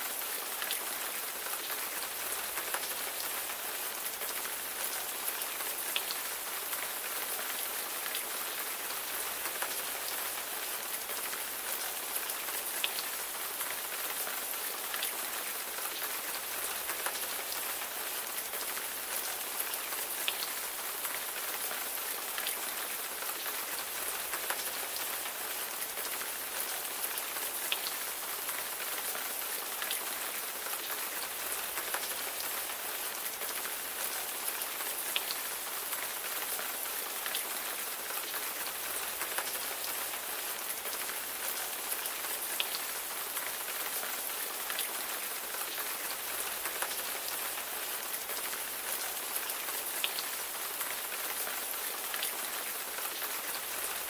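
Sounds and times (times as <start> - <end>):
raindrops ticking on a surface: 0.0 - 54.0
steady rain hiss: 0.0 - 54.0.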